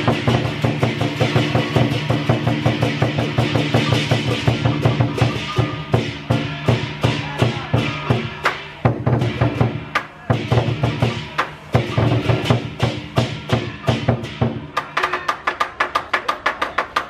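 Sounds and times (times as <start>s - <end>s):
cymbals crashing: 0.0s - 15.4s
drum beaten in rapid strokes: 0.0s - 17.0s.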